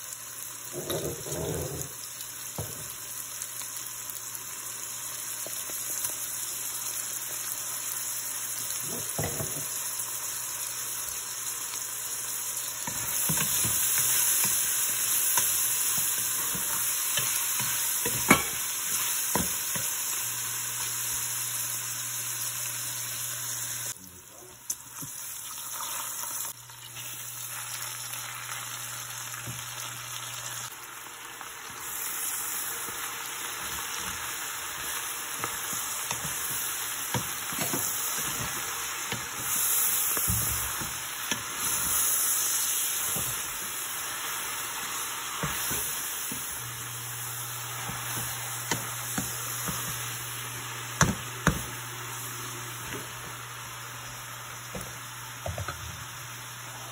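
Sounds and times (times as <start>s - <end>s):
onions and meat sizzling in a pot: 0.0s - 56.9s.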